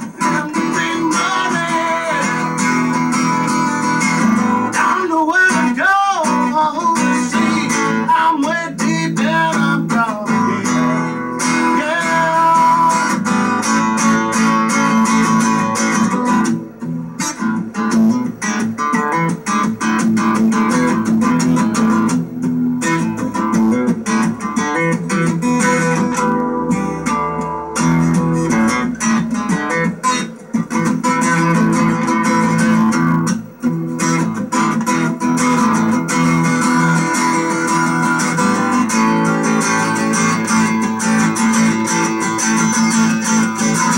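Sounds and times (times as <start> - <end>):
acoustic guitar blues picking: 0.0 - 43.9.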